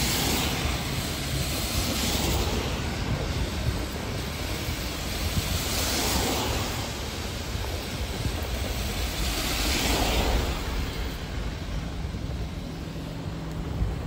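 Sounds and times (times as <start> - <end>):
tyre hiss on wet road: 0.0 - 14.0
wind on microphone: 0.0 - 14.0.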